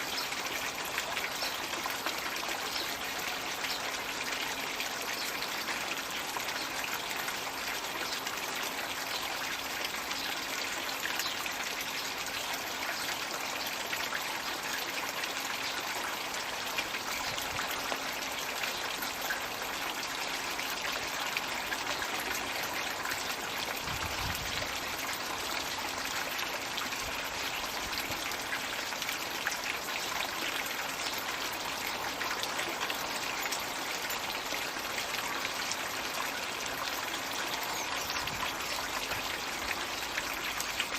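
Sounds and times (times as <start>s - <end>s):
water trickling and splashing into pond: 0.0s - 40.9s.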